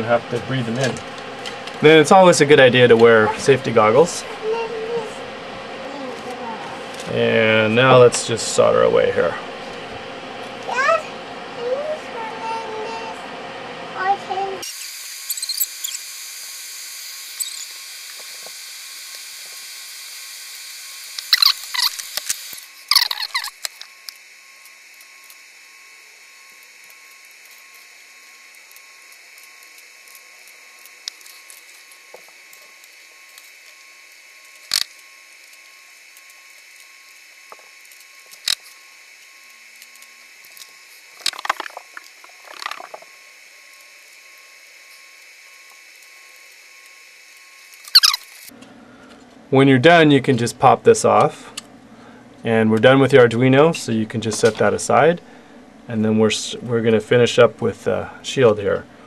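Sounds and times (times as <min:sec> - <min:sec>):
extractor fan hiss and whine: 0:00.0 - 0:59.0.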